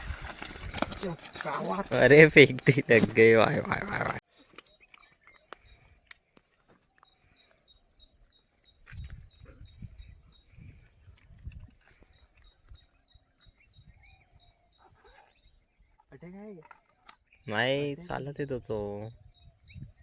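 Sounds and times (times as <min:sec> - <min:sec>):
bird chirping: 0:00.4 - 0:20.0.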